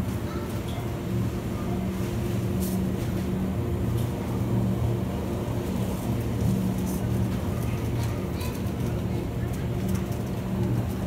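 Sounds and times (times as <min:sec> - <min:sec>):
refrigeration machine hum: 0:00.0 - 0:11.0.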